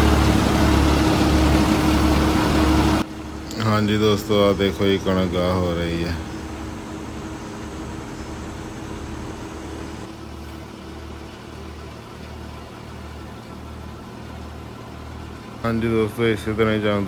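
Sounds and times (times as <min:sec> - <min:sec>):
thresher humming with rhythmic throb: 0:00.0 - 0:17.0.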